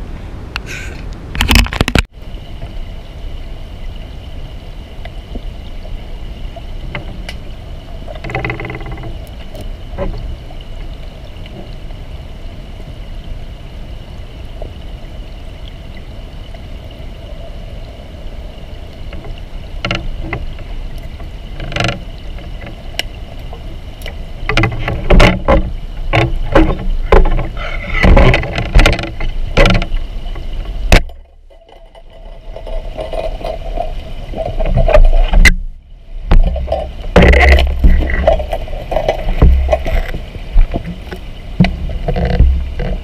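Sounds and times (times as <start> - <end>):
muffled underwater river rush: 0.0 - 43.0.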